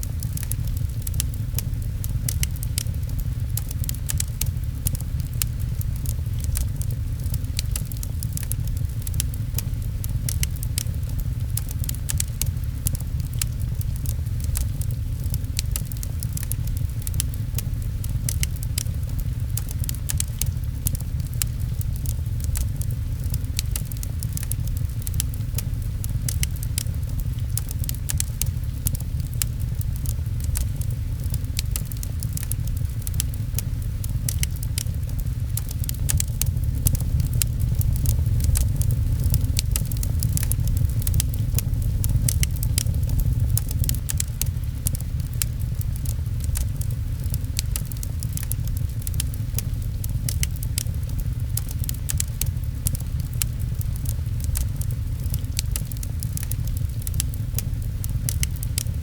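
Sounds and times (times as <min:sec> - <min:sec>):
fire low rumble: 0:00.0 - 0:59.0
rain pattering: 0:00.0 - 0:59.0
wood fire crackling and popping: 0:00.0 - 0:59.0.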